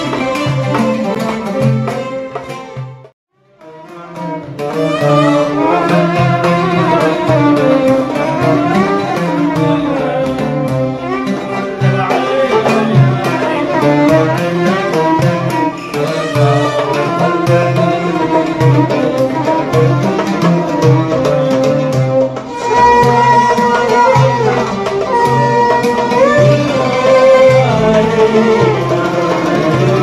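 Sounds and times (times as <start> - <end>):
hand drum strokes: 0.0 - 30.0
oud: 0.0 - 30.0
violin gliding melody: 0.0 - 30.0.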